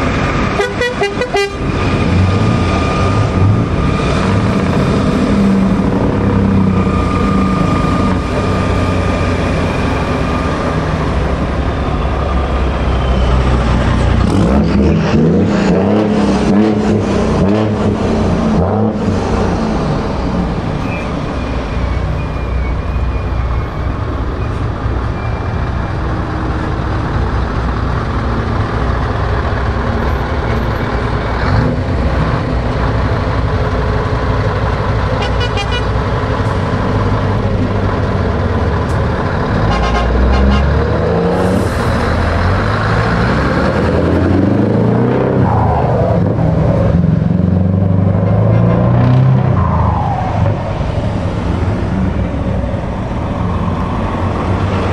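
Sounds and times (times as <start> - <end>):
heavy trucks rolling past: 0.0 - 54.9.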